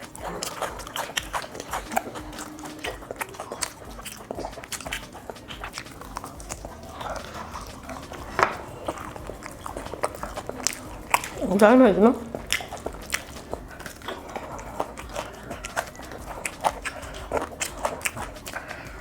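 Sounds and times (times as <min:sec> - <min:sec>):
crunchy bites and chewing: 0:00.0 - 0:19.0.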